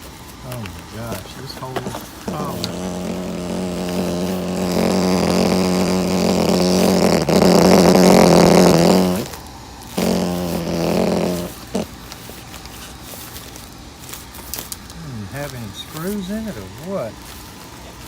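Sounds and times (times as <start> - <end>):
sheet-metal duct buzzing: 0.0 - 18.0.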